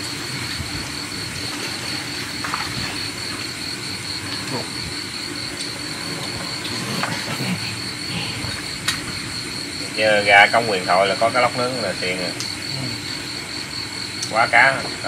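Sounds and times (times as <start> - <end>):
crickets and insects chirring: 0.0 - 15.0.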